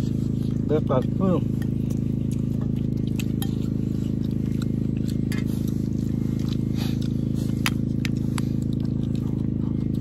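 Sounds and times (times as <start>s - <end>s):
motor droning with fast pulse: 0.0s - 10.0s.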